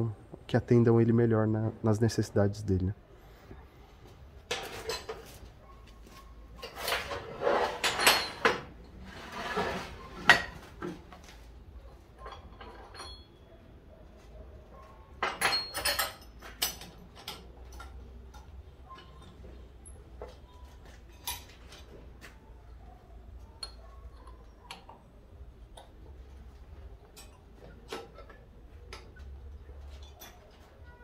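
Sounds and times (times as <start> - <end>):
metal clinking and scraping: 4.5 - 13.6, 14.3 - 31.0.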